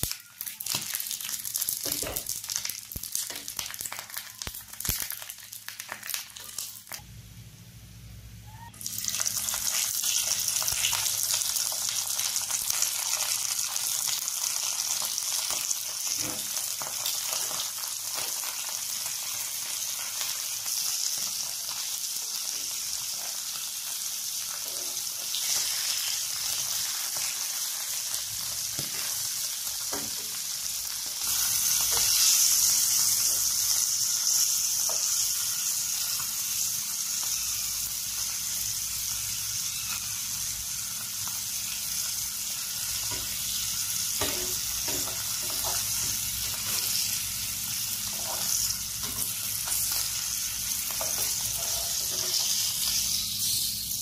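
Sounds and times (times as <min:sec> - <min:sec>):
fish sizzling in oil: 0:00.0 - 0:07.0, 0:08.5 - 0:54.0.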